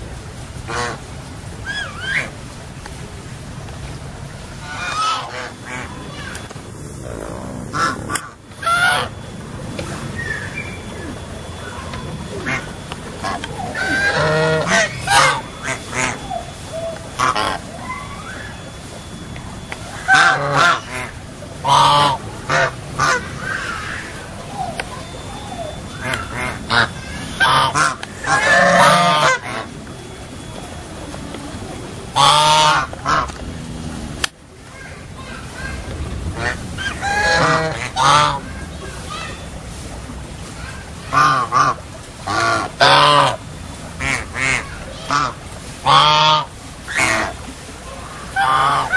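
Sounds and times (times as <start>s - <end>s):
waterfowl flock calling: 0.6s - 2.4s, 4.4s - 34.3s, 35.2s - 39.4s, 41.0s - 48.9s.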